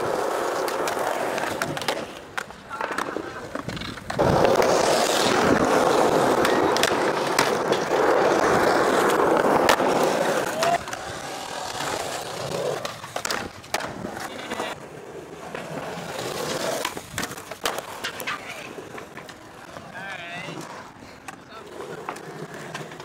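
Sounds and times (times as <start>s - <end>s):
skateboard clicks and knocks: 0.0s - 23.0s
skateboard wheels rolling on concrete: 0.0s - 23.0s.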